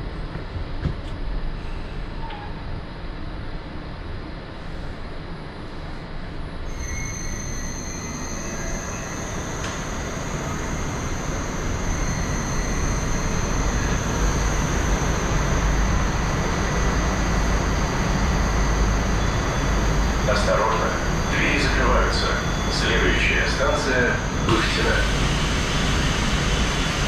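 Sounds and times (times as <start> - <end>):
train equipment hum: 0.0 - 27.0
high-pitched whine: 1.6 - 27.0.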